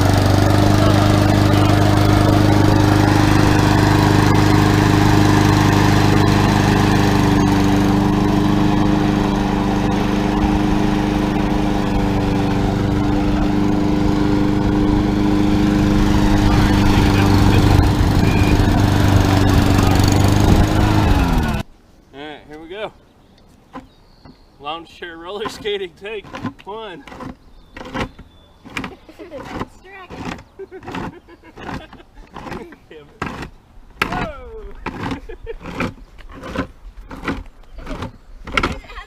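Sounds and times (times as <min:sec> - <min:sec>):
lawn mower engine running: 0:00.0 - 0:21.7, 0:25.3 - 0:39.0.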